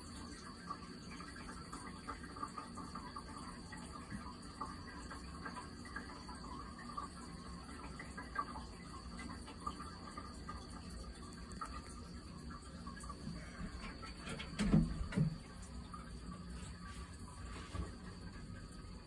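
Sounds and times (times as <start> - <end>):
water trickling into basin: 0.0 - 19.0.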